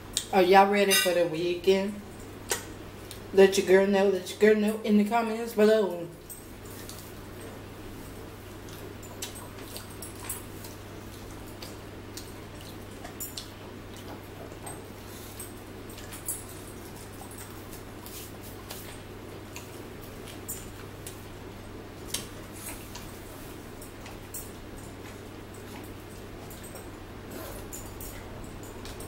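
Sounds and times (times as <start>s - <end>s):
steady low hum: 0.0s - 29.0s
chewing and lip smacks: 2.2s - 3.3s, 6.2s - 21.3s, 22.0s - 29.0s.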